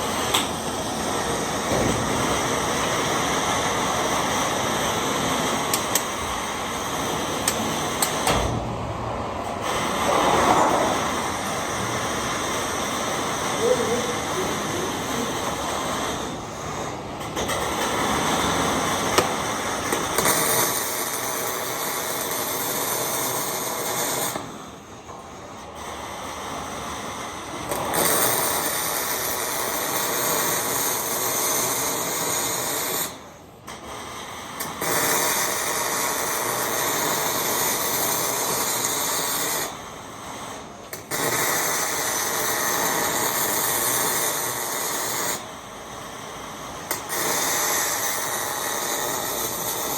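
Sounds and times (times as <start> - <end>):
welder arc crackling and hissing: 0.0 - 49.9.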